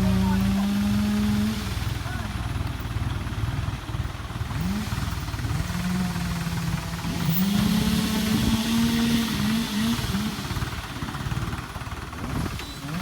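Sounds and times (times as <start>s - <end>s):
tractor engine revving: 0.0s - 13.0s.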